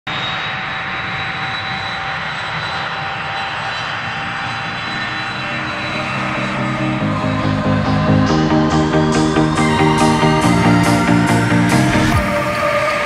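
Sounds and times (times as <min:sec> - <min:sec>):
airliner engines rushing with whine: 0:00.1 - 0:13.0.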